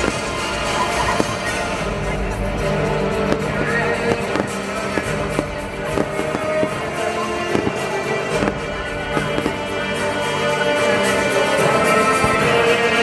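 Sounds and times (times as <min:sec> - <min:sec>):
loud music: 0:00.0 - 0:13.0.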